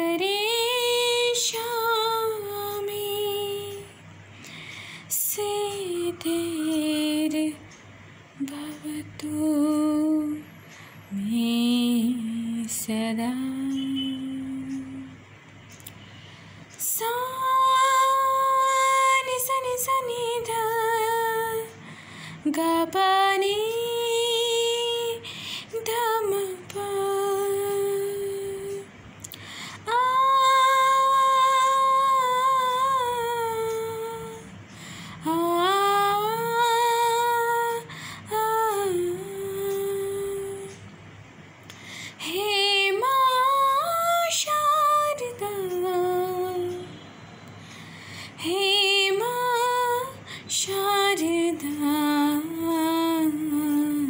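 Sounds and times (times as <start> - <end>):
woman singing a devotional hymn: 0.0 - 4.0, 5.0 - 7.7, 8.4 - 15.1, 16.8 - 40.9, 41.7 - 47.0, 47.8 - 54.0.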